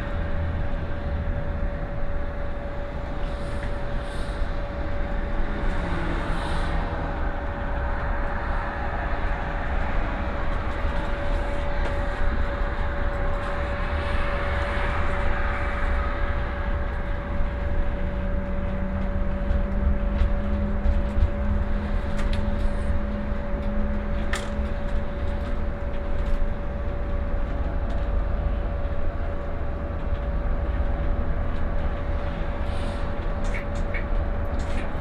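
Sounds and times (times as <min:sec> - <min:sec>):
bus rumble and road noise: 0:00.0 - 0:35.0
low hum: 0:00.0 - 0:35.0
steady electric whine: 0:00.0 - 0:35.0.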